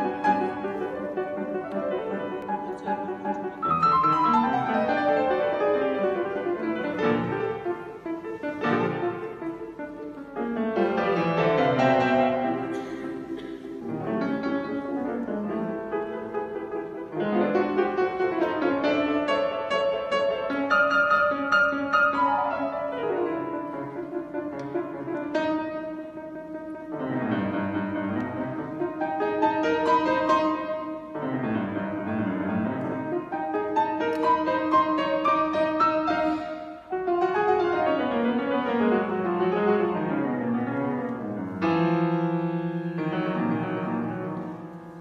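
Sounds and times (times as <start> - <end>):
solo piano piece: 0.0 - 45.0.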